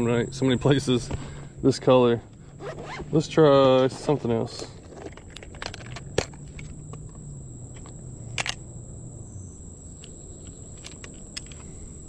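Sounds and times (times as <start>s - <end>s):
high-pitched insect buzz: 0.0s - 4.5s, 5.1s - 12.0s.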